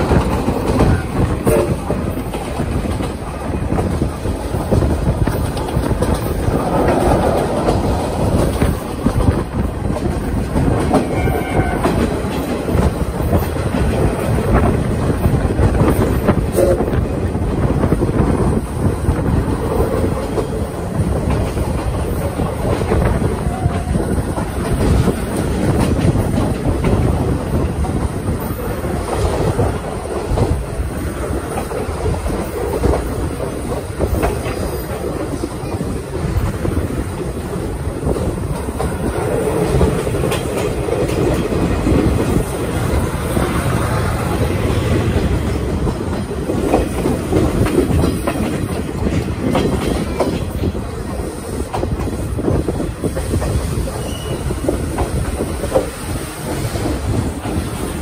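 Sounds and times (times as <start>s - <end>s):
train rolling rumble: 0.0s - 58.0s
wheels clacking over rail joints: 0.0s - 58.0s.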